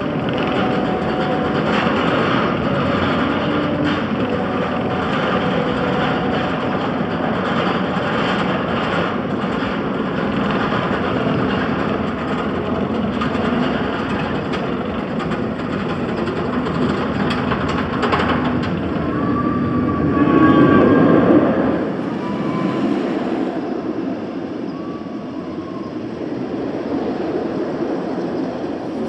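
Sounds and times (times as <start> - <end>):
roller coaster rumbling on track: 0.0 - 29.0.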